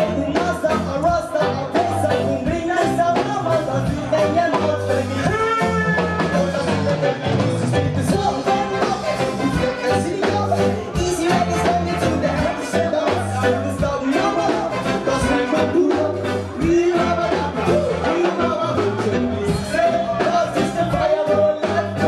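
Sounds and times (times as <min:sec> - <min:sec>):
people singing: 0:00.0 - 0:22.0
reggae band playing: 0:00.0 - 0:22.0.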